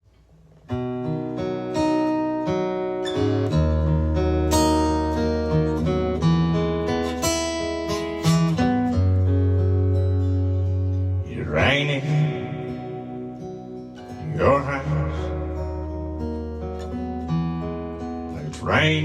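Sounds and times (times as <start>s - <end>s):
acoustic guitar picking and strumming: 0.1s - 19.0s.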